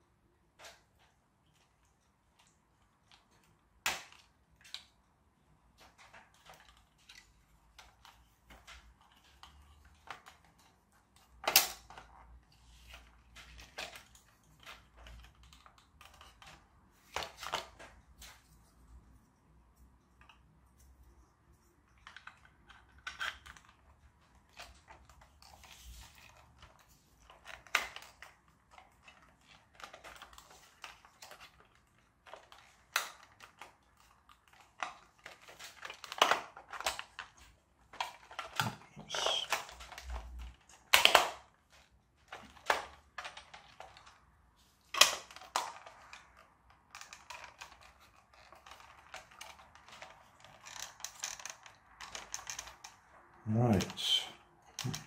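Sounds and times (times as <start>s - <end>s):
plastic parts clicking and rustling: 0.4s - 55.0s.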